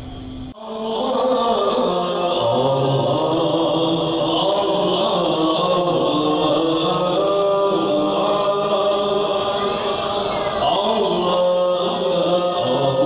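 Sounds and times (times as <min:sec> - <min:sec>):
men chanting together: 0:00.6 - 0:13.0.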